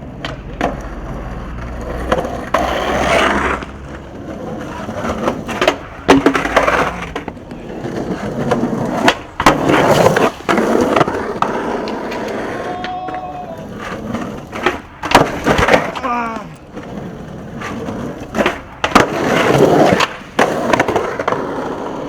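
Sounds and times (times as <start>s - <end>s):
skateboard clacks: 0.0s - 22.0s
skateboard wheels rolling: 0.0s - 22.0s.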